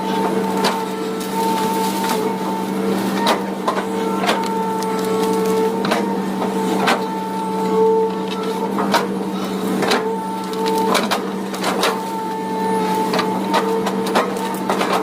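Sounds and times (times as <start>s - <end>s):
excavator engine humming: 0.0s - 15.0s.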